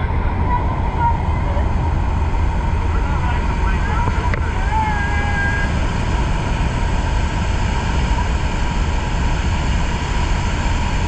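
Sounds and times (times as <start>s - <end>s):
airplane engine noise: 0.0s - 11.0s
wind rushing: 0.0s - 11.0s.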